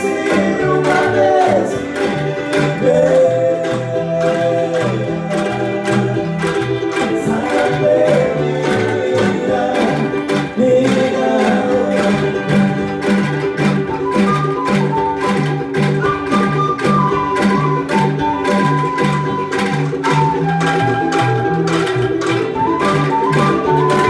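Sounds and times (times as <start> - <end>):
bending melody line: 0.0 - 24.0
strummed chords: 0.0 - 24.0.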